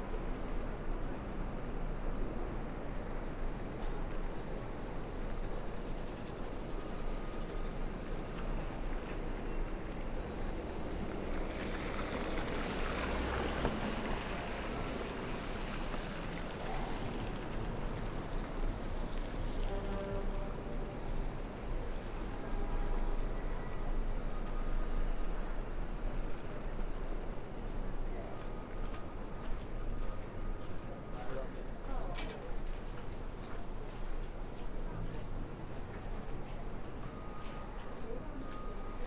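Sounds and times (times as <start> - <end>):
city street traffic hum: 0.0 - 39.0.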